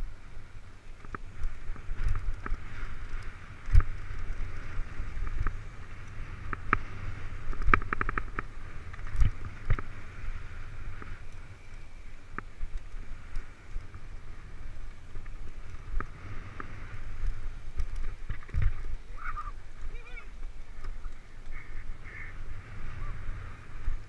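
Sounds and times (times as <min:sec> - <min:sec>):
bike knocking and rattling: 0:00.0 - 0:24.0
bike tyres on dirt: 0:00.0 - 0:24.0
wind on microphone: 0:00.0 - 0:24.0.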